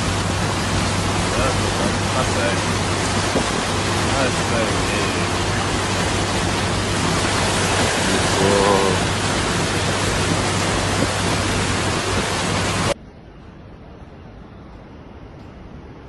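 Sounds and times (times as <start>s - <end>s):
floodwater rushing and splashing: 0.0s - 13.0s
low steady hum: 0.0s - 16.0s.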